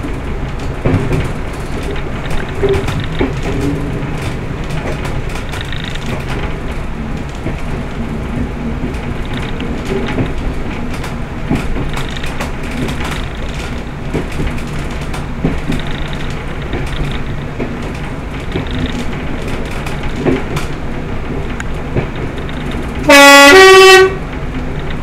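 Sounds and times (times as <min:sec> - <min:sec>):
diesel railcar engine drone: 0:00.0 - 0:25.0
running gear clicks and rattles: 0:00.0 - 0:25.0.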